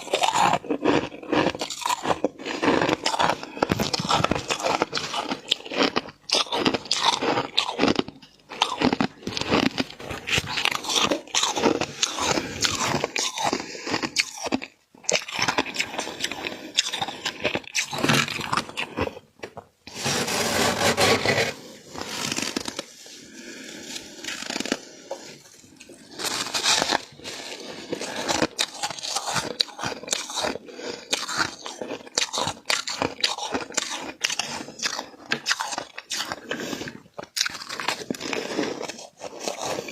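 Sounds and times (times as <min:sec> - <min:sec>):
crunching frost being chewed: 0:00.0 - 0:19.8, 0:21.4 - 0:39.9.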